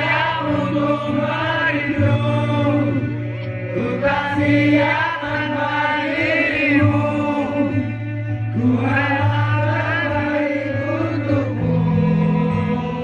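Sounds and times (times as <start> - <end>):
person singing: 0.0 - 13.0
pop music backing: 0.0 - 13.0.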